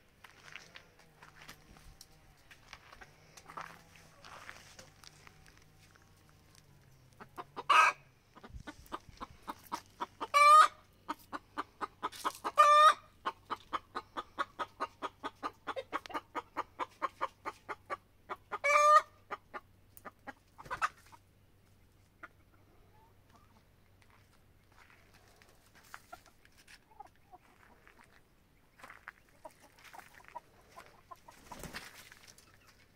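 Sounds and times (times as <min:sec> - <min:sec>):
hen clucking: 0:00.6 - 0:23.8, 0:25.8 - 0:28.1, 0:28.8 - 0:32.8.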